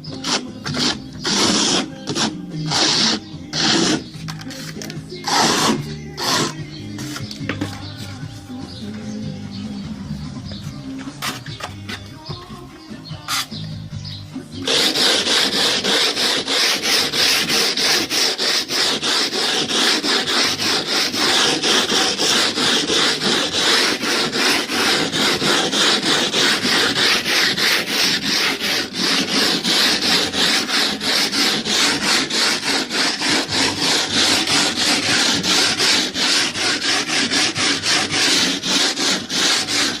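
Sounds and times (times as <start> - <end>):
plastering tool rasping on wall: 0.1 - 8.3, 13.0 - 13.6, 14.6 - 40.0.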